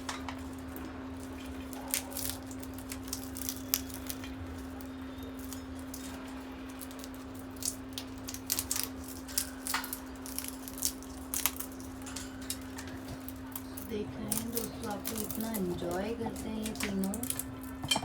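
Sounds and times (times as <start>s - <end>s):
parrots cracking peanut shells: 0.0s - 18.0s
steady low hum: 0.0s - 18.0s.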